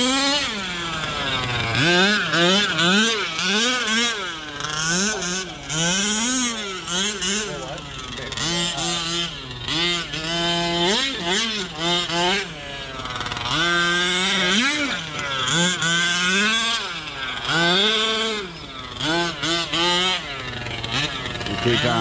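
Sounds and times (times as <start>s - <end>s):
rc truck engine revving: 0.0s - 22.0s.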